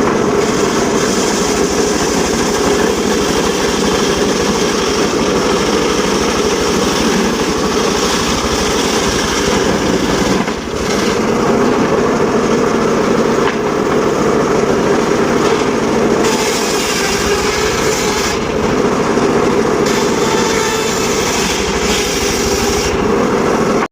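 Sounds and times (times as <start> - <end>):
sawmill running loudly: 0.0 - 23.9.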